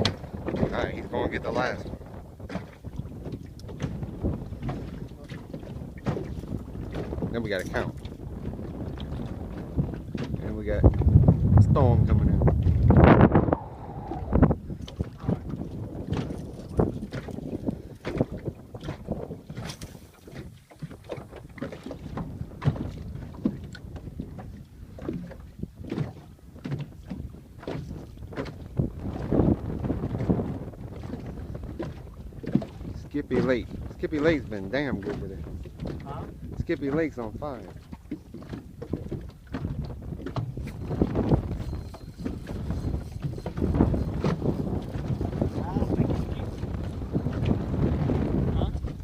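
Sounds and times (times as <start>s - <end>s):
water slapping against hull: 0.0s - 49.0s
wind buffeting microphone: 0.0s - 49.0s.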